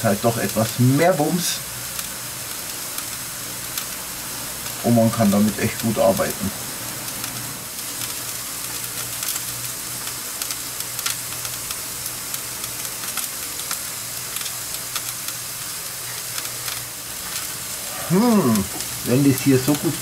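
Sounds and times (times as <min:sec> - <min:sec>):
meat sizzling on a grill: 0:00.0 - 0:20.0
small crackles and pops: 0:00.0 - 0:20.0.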